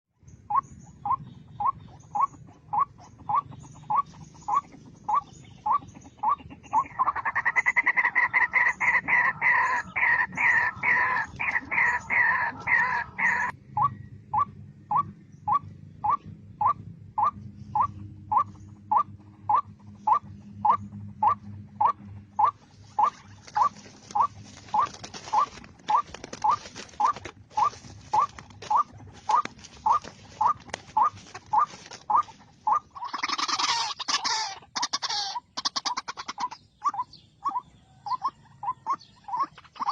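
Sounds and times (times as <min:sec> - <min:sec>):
waterhen calling: 0:00.5 - 0:39.9.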